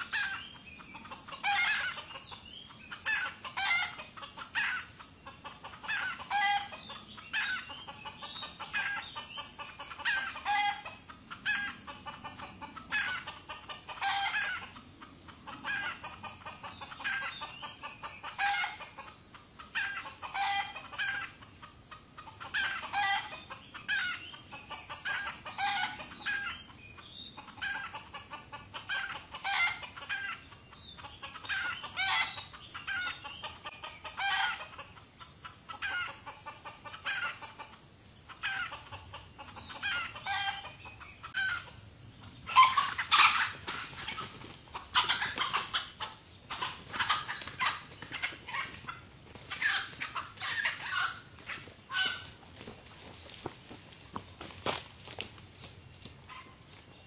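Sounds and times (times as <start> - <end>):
junglefowl clucking and crowing: 0.0 - 57.0.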